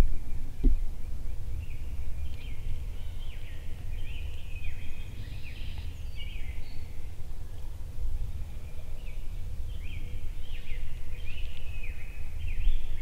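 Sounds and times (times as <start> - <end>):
steady low rumble: 0.0 - 11.4
songbirds chirping and whistling: 0.0 - 13.0.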